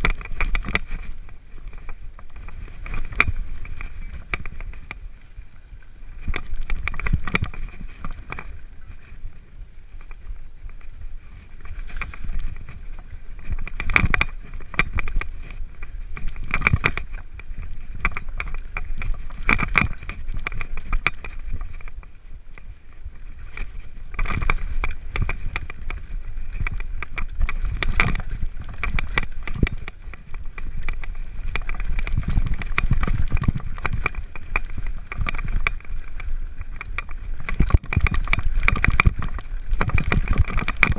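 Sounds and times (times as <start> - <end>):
bike frame rattling: 0.0 - 40.9
wheels knocking on rocks: 0.0 - 40.9.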